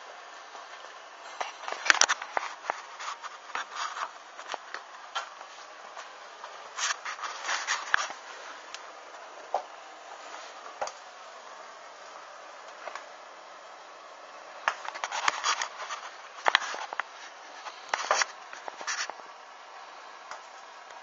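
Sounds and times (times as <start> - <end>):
small fire crackling: 0.0 - 21.0.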